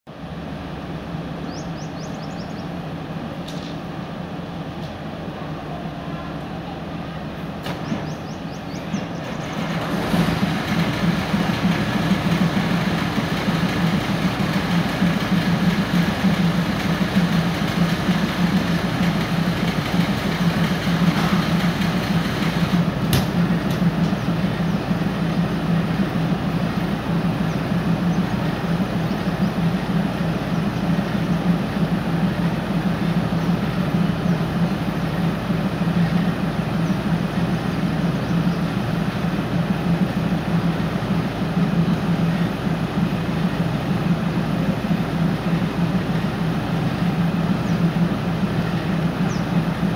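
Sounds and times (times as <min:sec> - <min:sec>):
diesel engine idling: 0:00.1 - 0:49.9.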